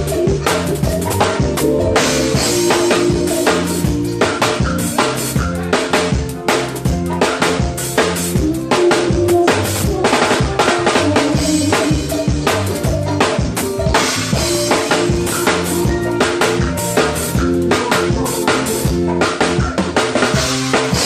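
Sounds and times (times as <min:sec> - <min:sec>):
drum kit: 0:00.0 - 0:21.0
live band playing: 0:00.0 - 0:21.0.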